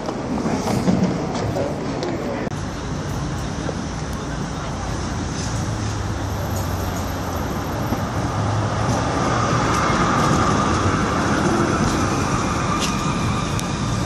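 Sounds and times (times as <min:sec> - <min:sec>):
tram wheels rumbling on rails: 0:00.0 - 0:14.0
tram whine: 0:00.0 - 0:14.0.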